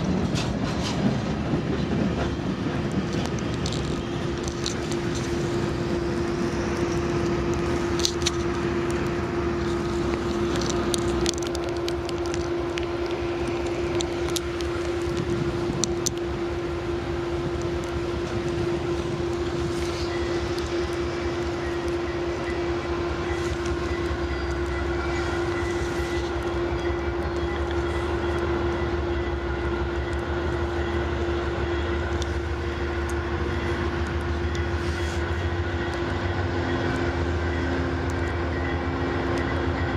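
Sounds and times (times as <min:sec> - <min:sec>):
diesel train running past: 0:00.0 - 0:39.9.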